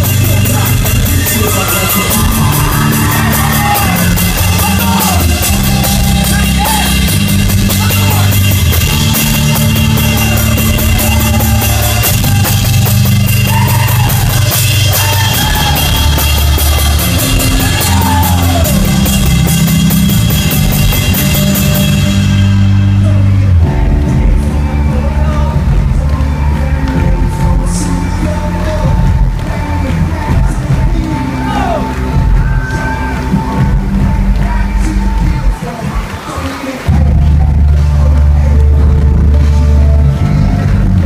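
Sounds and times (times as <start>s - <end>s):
person singing: 0.0s - 19.8s, 21.4s - 41.0s
drum kit cymbal beat: 0.0s - 36.3s
bass line: 0.0s - 41.0s
live rock band: 0.0s - 41.0s.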